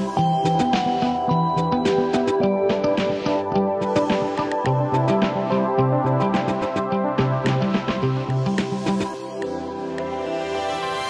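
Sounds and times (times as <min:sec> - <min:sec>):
background music with bass and beat: 0:00.0 - 0:11.0.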